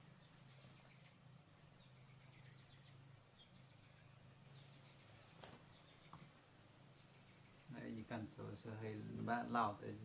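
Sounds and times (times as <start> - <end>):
faint insect trill: 0.0 - 10.0.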